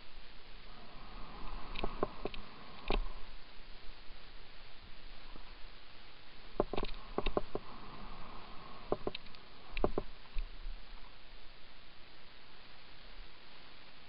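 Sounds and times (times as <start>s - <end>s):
wind and rolling noise: 0.0s - 14.0s.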